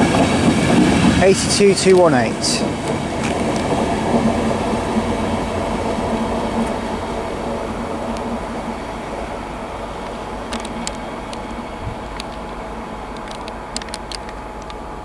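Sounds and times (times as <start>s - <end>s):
electric train rumbling: 0.0s - 15.0s
low hum: 0.0s - 15.0s.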